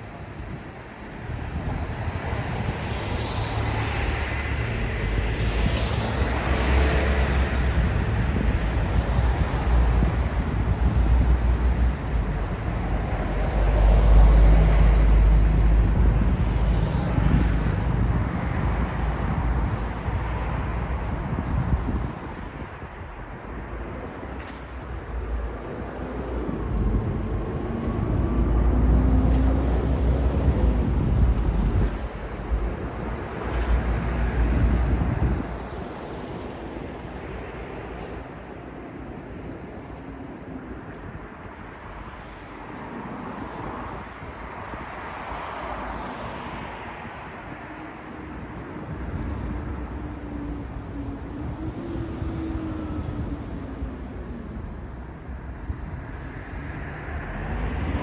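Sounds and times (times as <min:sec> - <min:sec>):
vehicles passing with low rumble: 0:00.0 - 0:58.0.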